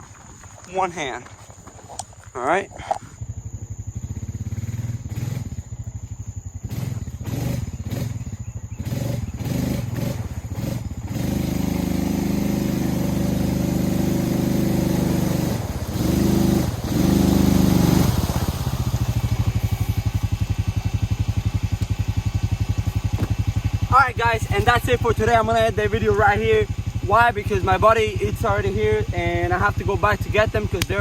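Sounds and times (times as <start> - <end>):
atv engine idling and revving: 0.0 - 31.0.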